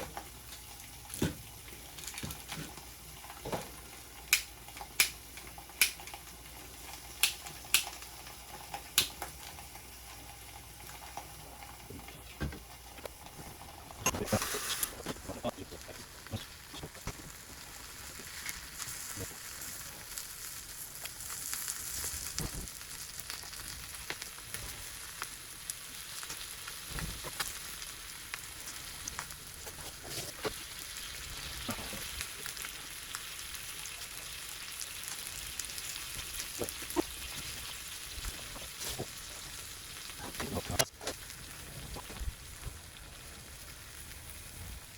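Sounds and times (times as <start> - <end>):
chicken sizzling with fat popping: 0.0 - 44.9.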